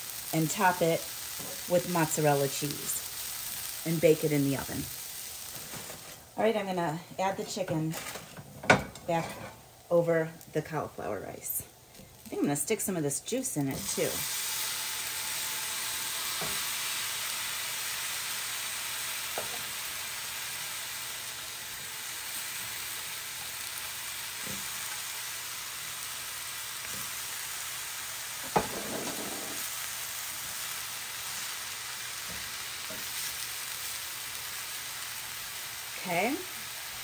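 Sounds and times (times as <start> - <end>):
food sizzling in a skillet: 0.0 - 37.0.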